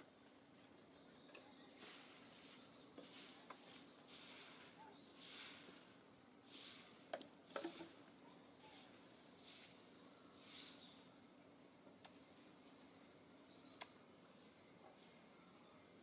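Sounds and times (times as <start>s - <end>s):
faint hiss: 1.5s - 16.0s.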